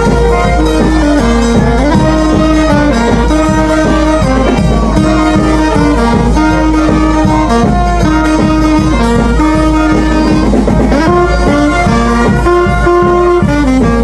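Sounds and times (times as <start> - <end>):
brass band playing dance music: 0.0 - 14.0
saxophone melody: 0.0 - 14.0.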